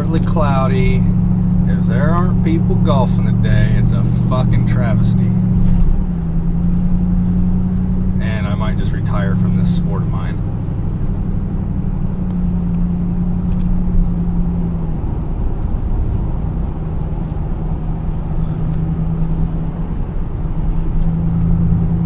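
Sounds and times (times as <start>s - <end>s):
car engine drone: 0.0s - 22.0s
road noise: 0.0s - 22.0s.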